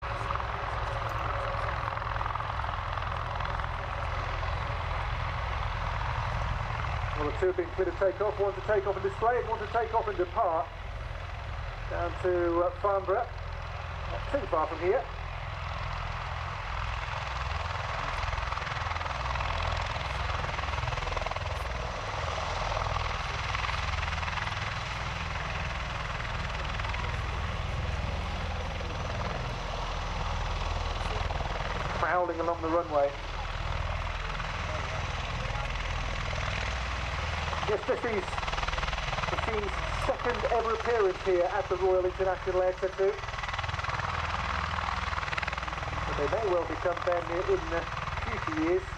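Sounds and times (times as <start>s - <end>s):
aircraft rotor beat: 0.0s - 48.9s
rushing engine noise: 0.0s - 48.9s.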